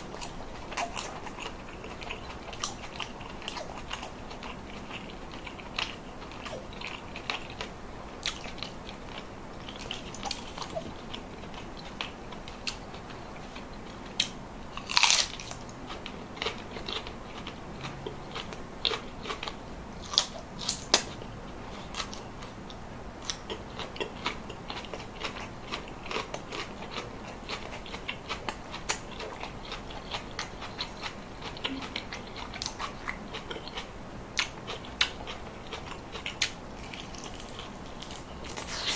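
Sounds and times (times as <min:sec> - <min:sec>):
person chewing crunchy food: 0:00.0 - 0:22.5, 0:23.2 - 0:38.9.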